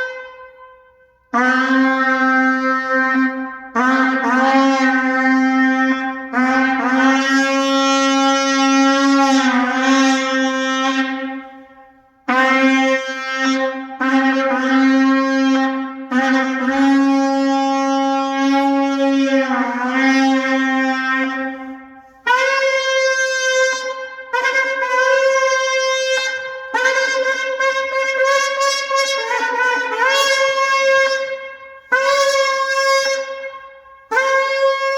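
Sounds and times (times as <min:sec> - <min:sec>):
horn shofar blasts: 0:00.0 - 0:34.9.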